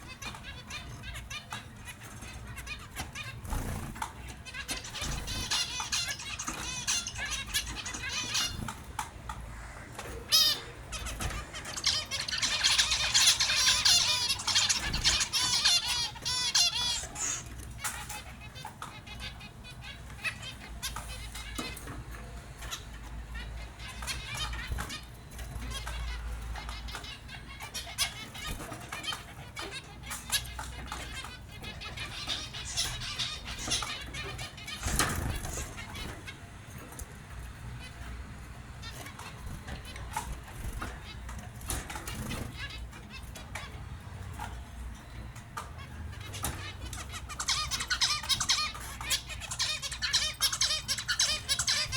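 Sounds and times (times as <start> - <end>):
finches chirping: 0.0 - 51.9.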